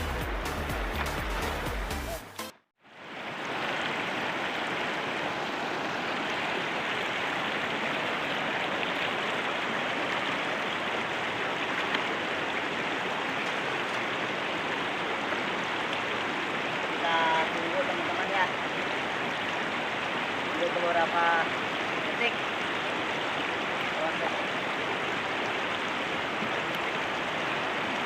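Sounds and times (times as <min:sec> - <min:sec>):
river water rushing: 0:00.0 - 0:02.2, 0:02.8 - 0:28.0.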